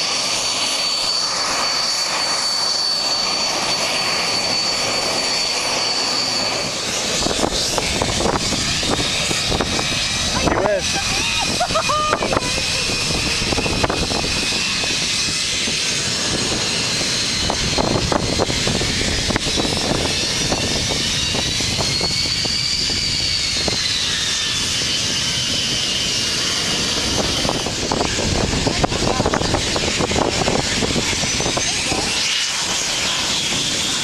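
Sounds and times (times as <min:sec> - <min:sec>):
jet engines whining: 0:00.0 - 0:34.0.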